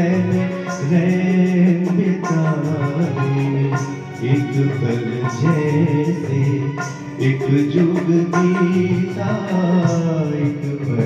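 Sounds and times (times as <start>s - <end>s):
keyboard melody: 0.0s - 11.0s
tabla beat: 0.0s - 11.0s.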